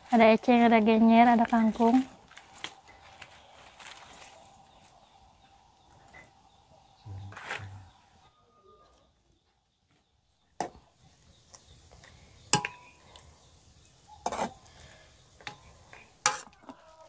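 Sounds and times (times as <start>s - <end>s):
boiling water hiss: 0.0s - 8.1s, 10.6s - 17.0s.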